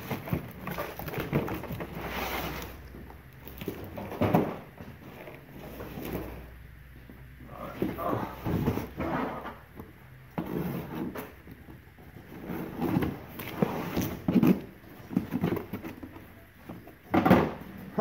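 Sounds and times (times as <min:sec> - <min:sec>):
cardboard box scraping and knocking: 0:00.0 - 0:06.5, 0:07.7 - 0:09.7, 0:10.3 - 0:11.4, 0:12.2 - 0:17.6
cardboard rustling: 0:00.0 - 0:06.6, 0:07.5 - 0:18.0.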